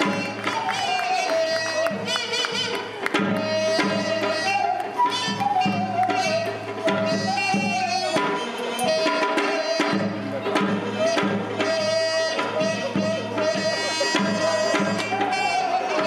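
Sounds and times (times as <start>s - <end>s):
hand-drum strokes: 0.0s - 16.0s.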